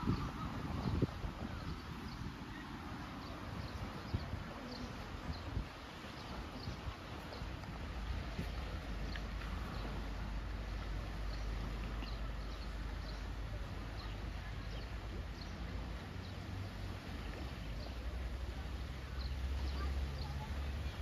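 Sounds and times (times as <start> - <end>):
small birds chirping: 0.0 - 10.1, 10.7 - 18.1, 19.0 - 21.0
sea wash: 0.0 - 21.0
wind rumbling on microphone: 0.0 - 21.0.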